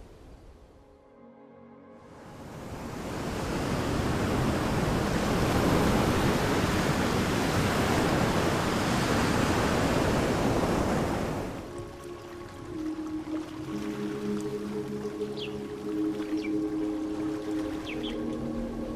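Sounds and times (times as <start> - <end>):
ocean surf rushing: 2.2 - 18.5.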